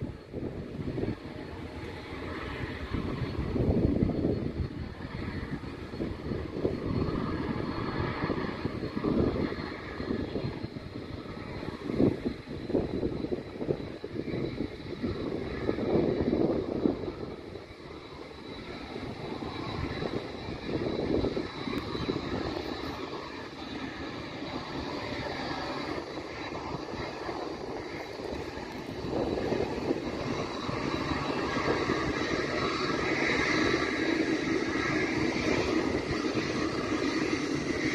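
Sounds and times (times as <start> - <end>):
high-pitched whine: 0.0 - 37.9
jet engines rumbling: 0.0 - 37.9.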